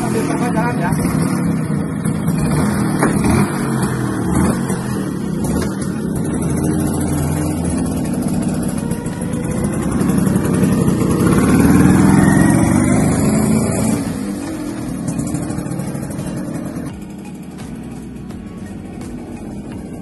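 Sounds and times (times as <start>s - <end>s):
scooter engine accelerating past: 0.0s - 20.0s.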